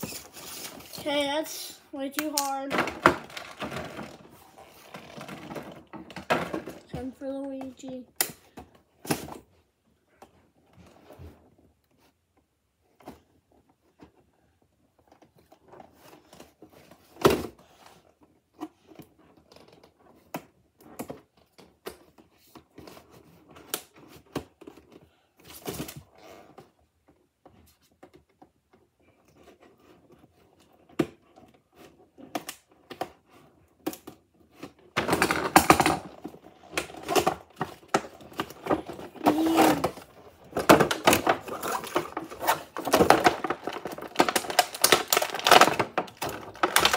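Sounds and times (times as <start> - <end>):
plastic rustling and crinkling: 0.0 - 9.6, 12.8 - 46.9.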